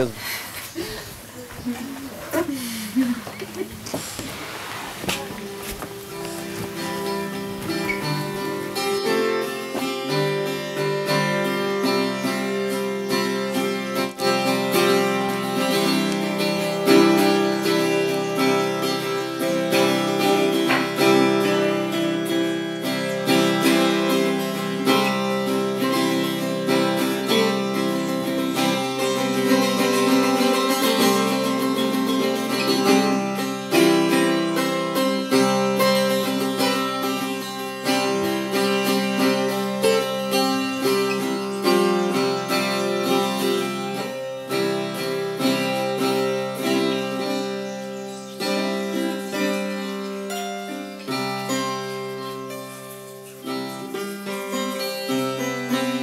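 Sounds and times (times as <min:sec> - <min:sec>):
acoustic guitar music: 0:00.0 - 0:56.0.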